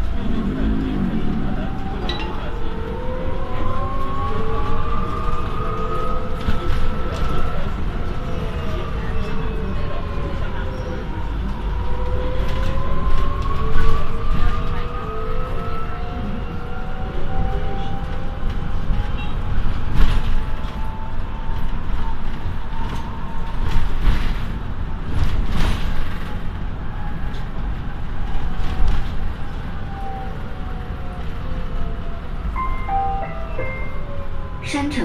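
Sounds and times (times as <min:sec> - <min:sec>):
bus road and engine rumble: 0:00.0 - 0:35.0.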